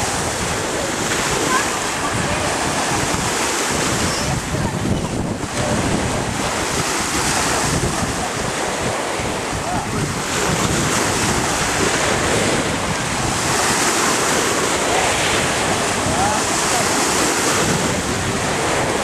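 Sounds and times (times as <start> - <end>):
small sea waves washing ashore: 0.0 - 19.0
wind buffeting microphone: 0.0 - 19.0.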